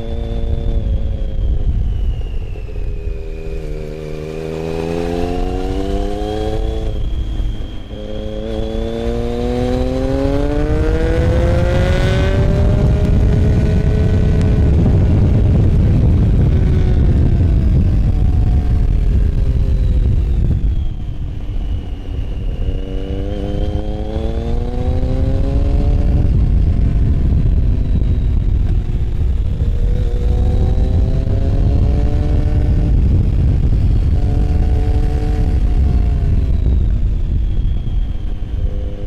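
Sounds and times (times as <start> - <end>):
motorcycle engine accelerating: 0.0 - 39.0.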